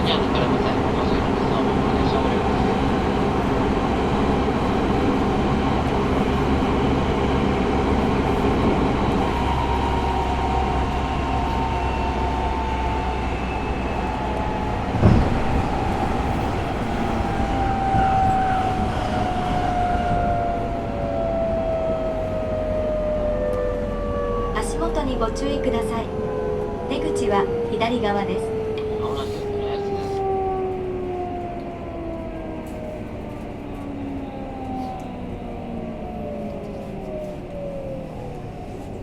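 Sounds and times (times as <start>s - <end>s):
wheels rumbling on rail: 0.0s - 39.0s.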